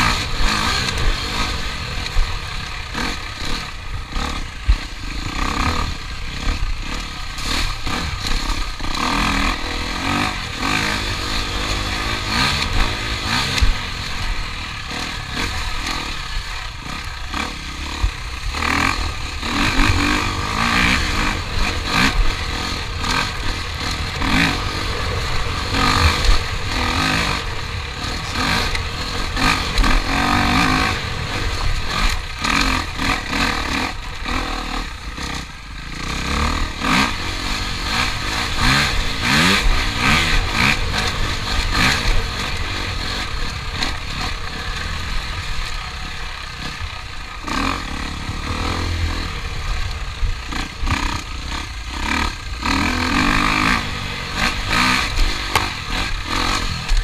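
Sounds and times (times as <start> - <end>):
motor engines revving: 0.0 - 57.0.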